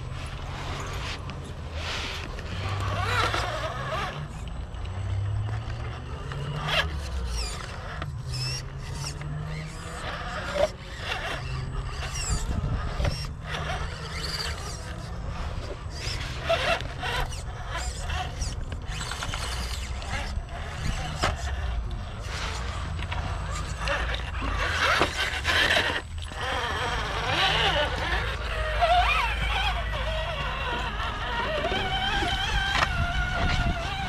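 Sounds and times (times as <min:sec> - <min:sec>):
electric motor and gears whining: 0:00.0 - 0:34.0.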